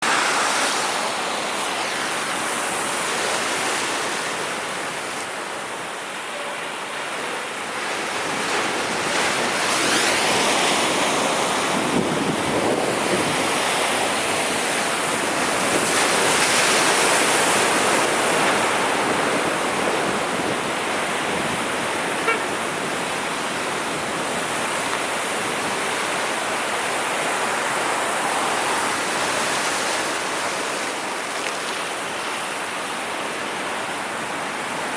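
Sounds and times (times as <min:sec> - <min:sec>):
sea waves breaking ashore: 0:00.0 - 0:34.9.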